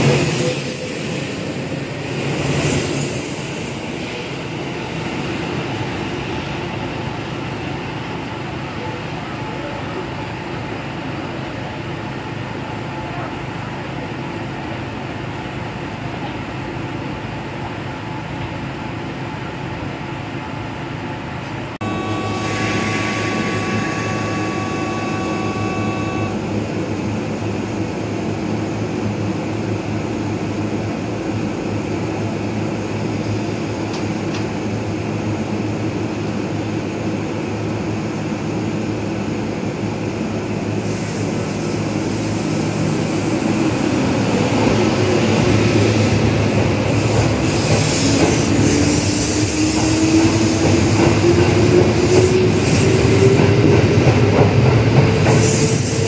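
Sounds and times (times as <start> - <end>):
distant train approaching: 0.0 - 56.0
rail station background noise: 0.0 - 56.0
train humming at platform: 0.0 - 56.0.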